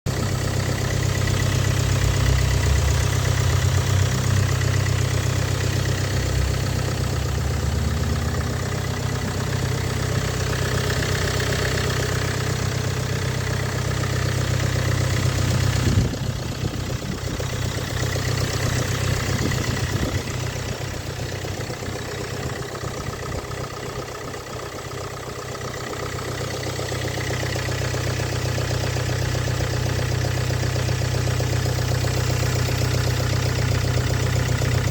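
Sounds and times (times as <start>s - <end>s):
engine idling with a knock: 0.1s - 34.9s.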